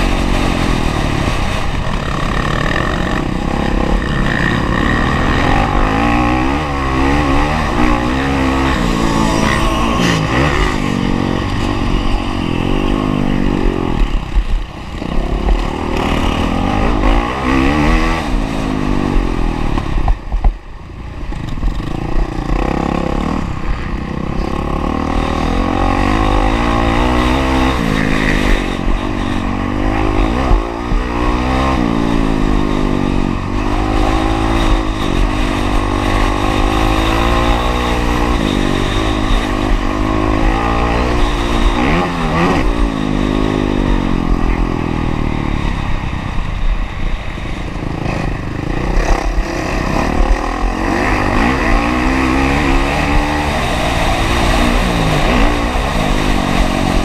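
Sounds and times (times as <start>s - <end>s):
motocross bike engine revving: 0.0s - 20.1s, 21.4s - 57.0s.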